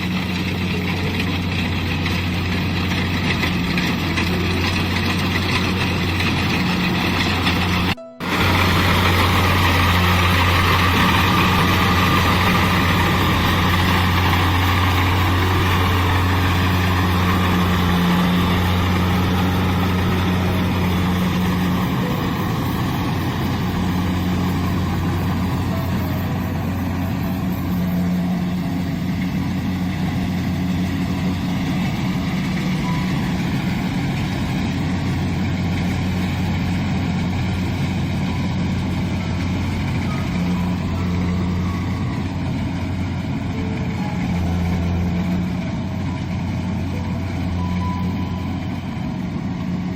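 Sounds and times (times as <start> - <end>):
combine harvester diesel engine: 0.0 - 49.9.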